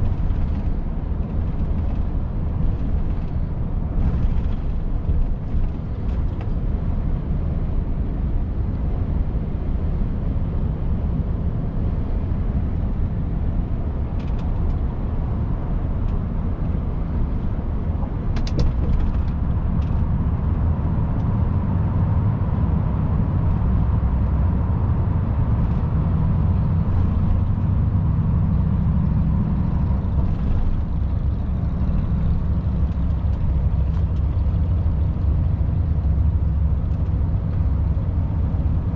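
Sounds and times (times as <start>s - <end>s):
diesel truck engine droning: 0.0s - 38.9s.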